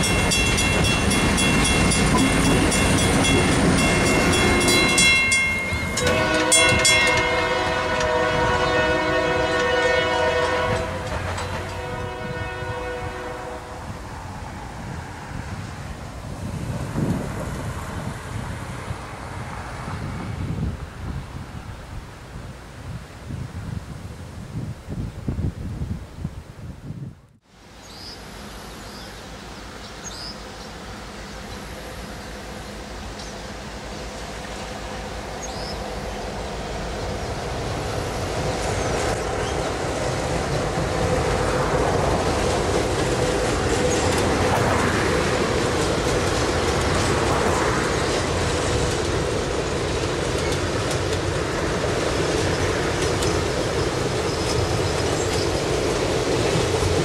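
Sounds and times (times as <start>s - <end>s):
train wheels rumbling and clattering: 0.0s - 21.0s, 30.1s - 57.0s.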